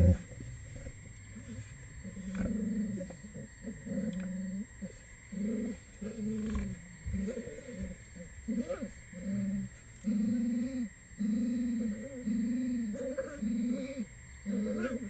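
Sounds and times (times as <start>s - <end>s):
wolves moaning calls: 1.4s - 15.0s.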